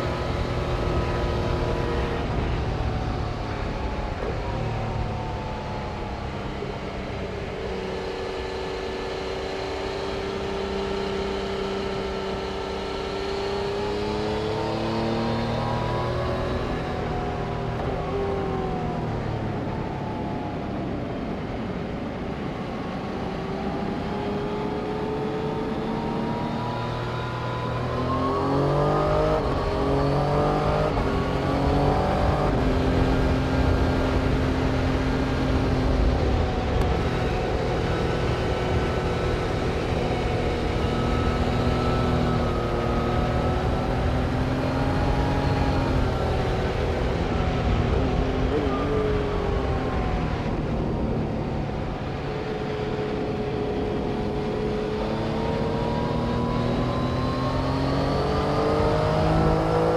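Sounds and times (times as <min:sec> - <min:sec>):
vehicle engines revving: 0:00.0 - 0:59.9.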